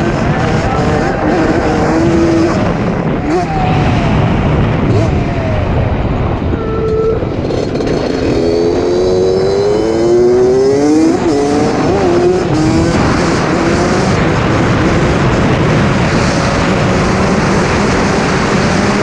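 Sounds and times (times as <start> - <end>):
steady low rush: 0.0 - 16.7
dirt bike engine revving: 0.0 - 19.0.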